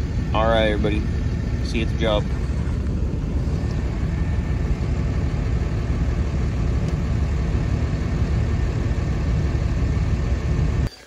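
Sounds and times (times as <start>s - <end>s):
truck engine and road rumble: 0.0s - 10.9s.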